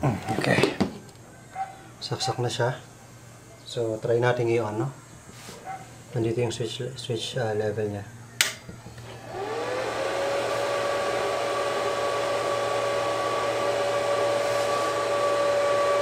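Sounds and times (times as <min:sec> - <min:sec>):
cooling fan whirring: 0:00.0 - 0:16.0.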